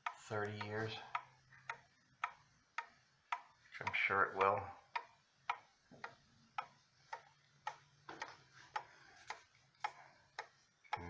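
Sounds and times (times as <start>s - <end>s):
wall clock ticking: 0.0s - 11.0s.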